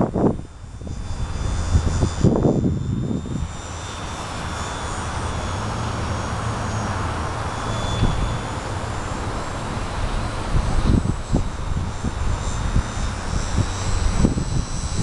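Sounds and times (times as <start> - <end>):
rc plane motor whine: 0.0 - 15.0
wind on microphone: 0.0 - 15.0.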